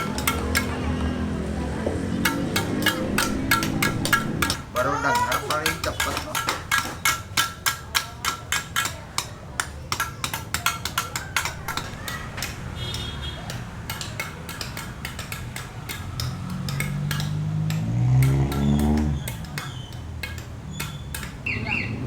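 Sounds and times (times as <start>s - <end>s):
rapid metallic hammering: 0.0s - 22.0s.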